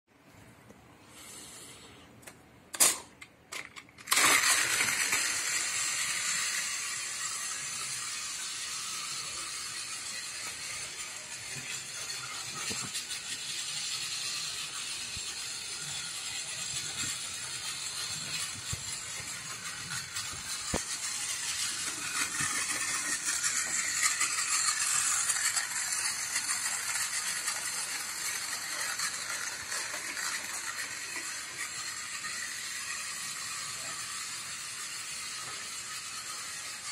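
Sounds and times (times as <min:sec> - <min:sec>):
wheels rattling on plastic track: 0:02.8 - 0:36.9
small motor whirring: 0:04.1 - 0:36.9.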